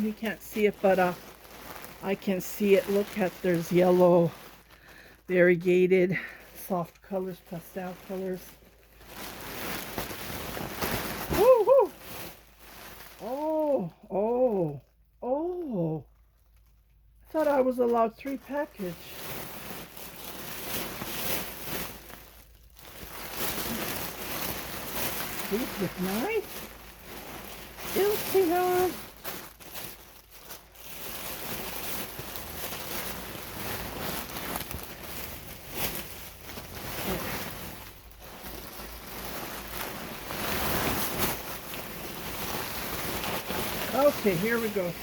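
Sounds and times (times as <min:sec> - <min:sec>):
plastic bags rustling: 0:00.0 - 0:45.0.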